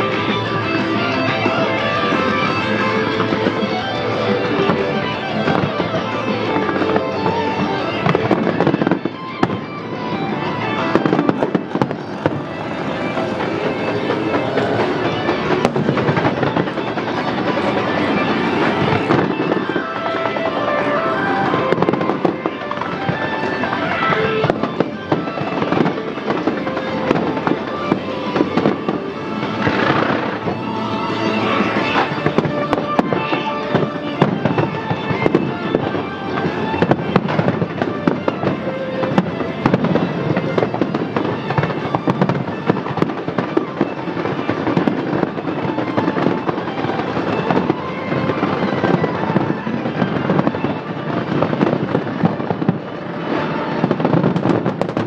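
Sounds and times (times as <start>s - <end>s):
fireworks bursting and crackling: 0.0s - 55.0s
music playing: 0.0s - 55.0s.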